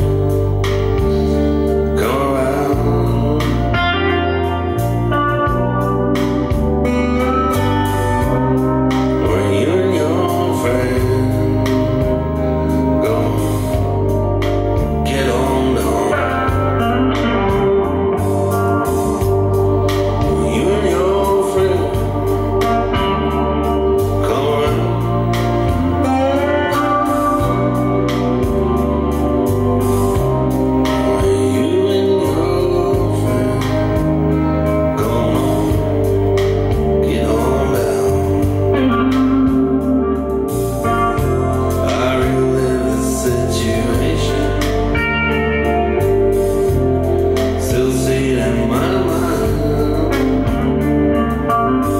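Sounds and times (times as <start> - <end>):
song with vocal and guitar: 0.0 - 51.9.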